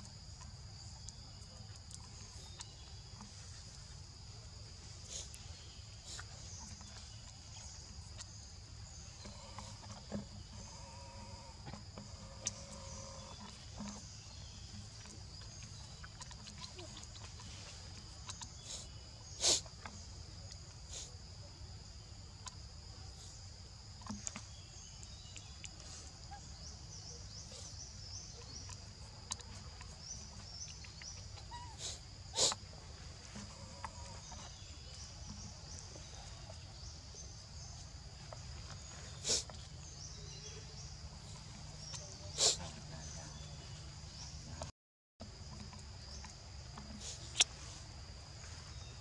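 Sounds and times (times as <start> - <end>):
forest insects droning: 0.0 - 49.0.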